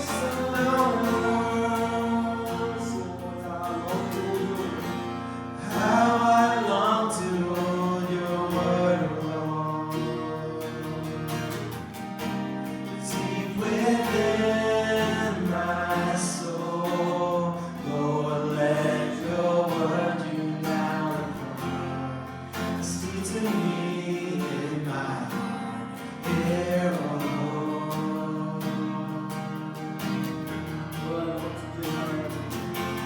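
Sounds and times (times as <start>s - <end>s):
congregation singing worship song: 0.0s - 11.8s, 12.7s - 33.0s
strummed guitar: 0.0s - 33.0s.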